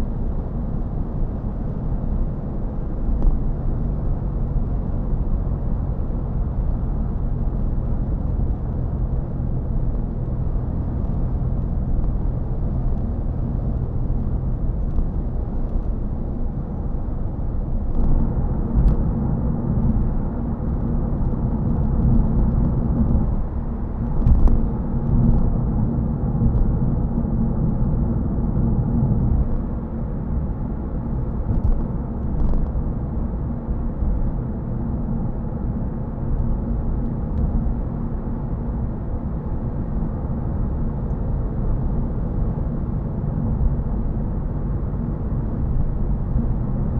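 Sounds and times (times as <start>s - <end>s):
road and tyre noise inside car: 0.0s - 46.9s.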